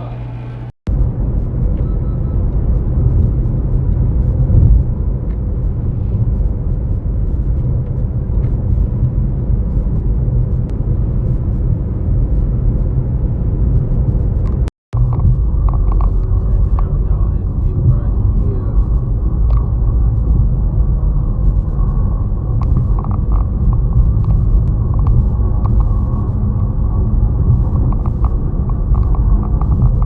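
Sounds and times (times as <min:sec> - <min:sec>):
car interior road rumble: 0:00.0 - 0:30.0.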